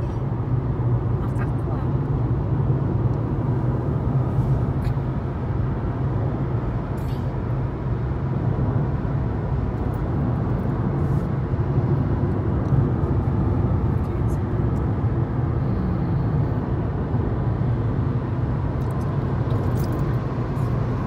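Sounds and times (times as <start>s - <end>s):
car driving at highway speed: 0.0s - 21.0s.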